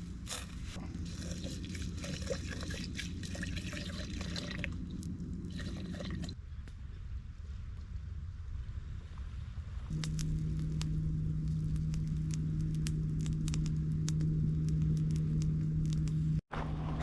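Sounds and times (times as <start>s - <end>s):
steady low hum: 0.0s - 6.6s, 9.9s - 17.0s
campfire crackling: 0.0s - 6.9s, 7.8s - 16.4s.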